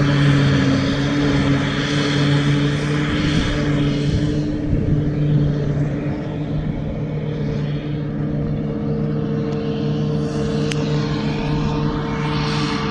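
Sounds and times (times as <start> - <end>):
forage harvester droning: 0.0 - 12.9.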